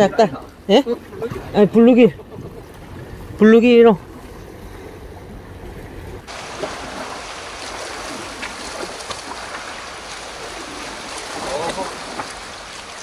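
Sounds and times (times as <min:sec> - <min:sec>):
sea waves on rocky shore: 0:00.0 - 0:13.0.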